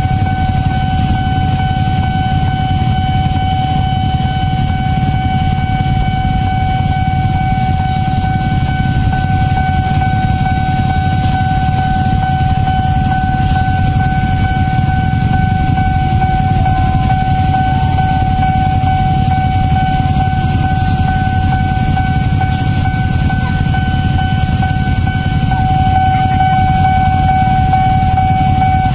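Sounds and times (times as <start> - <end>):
crossing alarm high tone: 0.0 - 28.9
electric train rumbling: 0.0 - 28.9.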